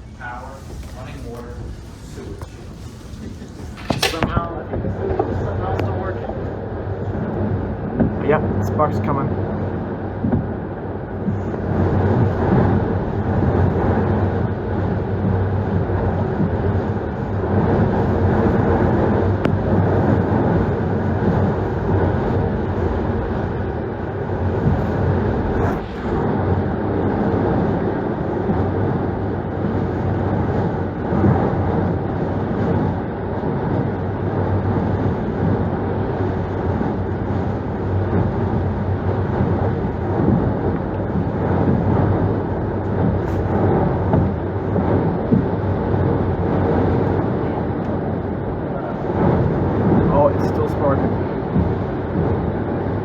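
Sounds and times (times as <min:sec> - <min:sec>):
strong wind rushing: 0:00.0 - 0:53.0
wind buffeting microphone: 0:00.0 - 0:53.0.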